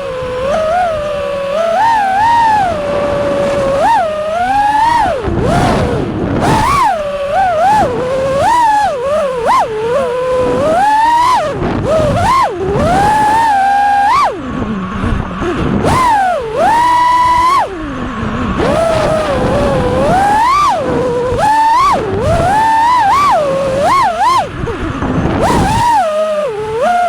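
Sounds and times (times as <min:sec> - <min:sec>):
drone motors whining: 0:00.0 - 0:27.0.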